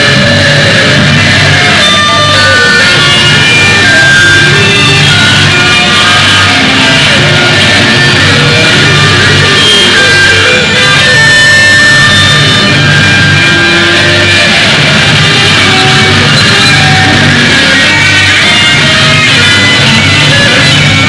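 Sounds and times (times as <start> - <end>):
distorted electric guitar rock music: 0.0 - 21.0.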